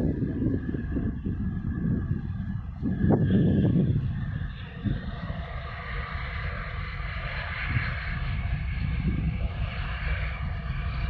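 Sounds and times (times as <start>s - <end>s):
engine drone: 0.0s - 11.0s
wind buffeting microphone: 0.0s - 11.0s.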